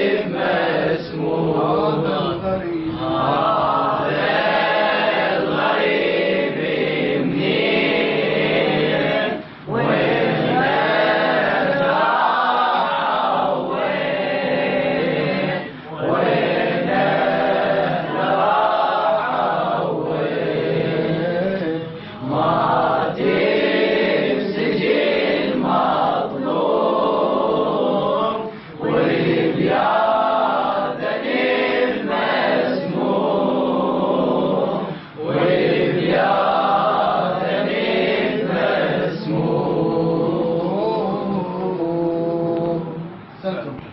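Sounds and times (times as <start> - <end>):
melodic chanted recitation: 0.0 - 43.9.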